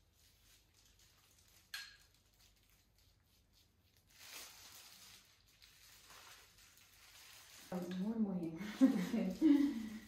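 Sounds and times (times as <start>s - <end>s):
soft rustling hiss: 0.0s - 10.0s.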